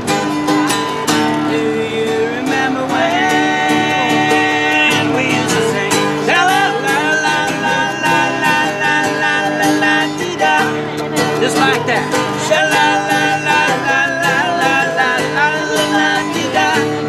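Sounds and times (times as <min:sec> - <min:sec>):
acoustic guitars strummed: 0:00.0 - 0:17.0
man and woman singing: 0:00.2 - 0:17.0.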